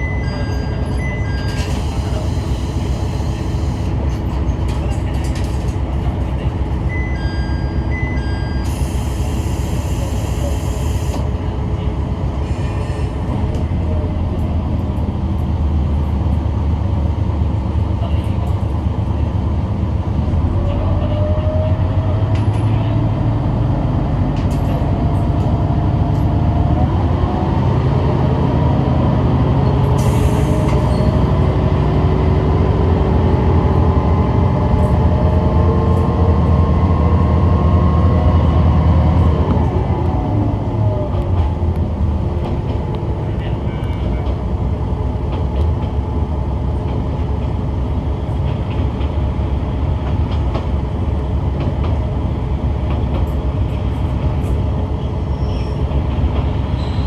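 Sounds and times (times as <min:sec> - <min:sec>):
railcar engine hum: 0:00.0 - 0:57.0.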